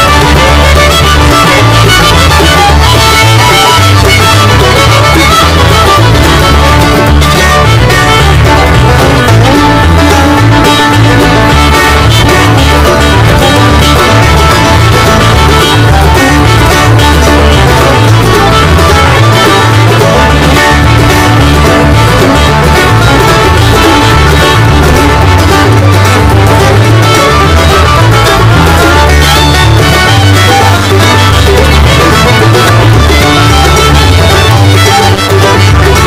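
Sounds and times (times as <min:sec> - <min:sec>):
loud instrumental music: 0:00.0 - 0:36.0
strong bass line: 0:00.0 - 0:36.0.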